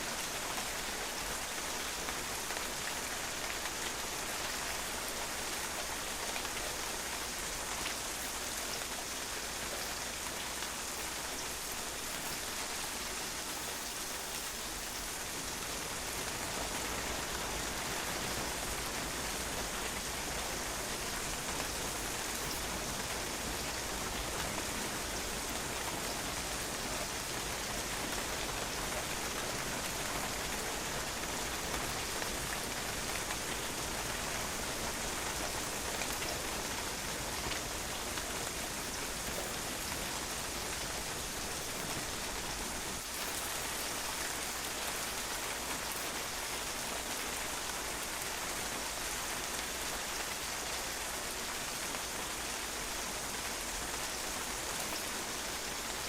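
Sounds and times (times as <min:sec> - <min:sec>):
rain spattering on a patio: 0:00.0 - 0:56.0.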